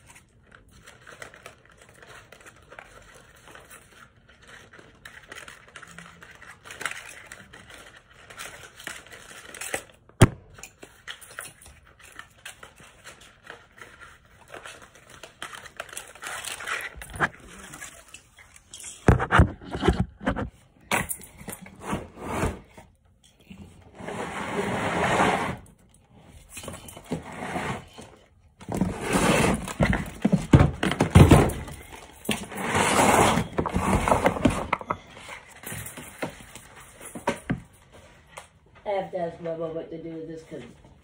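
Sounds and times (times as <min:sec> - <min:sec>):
handling rustling and scraping: 0:00.0 - 0:38.6.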